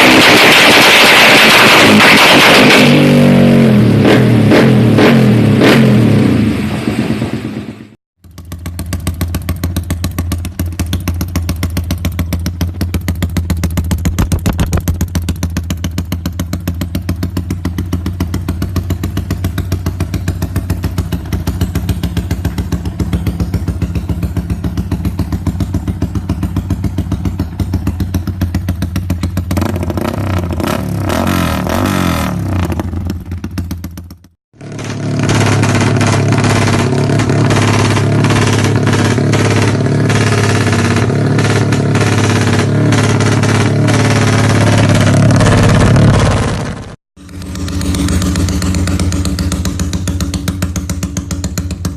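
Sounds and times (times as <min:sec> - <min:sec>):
motorcycle engine running steadily: 0:00.0 - 0:51.9.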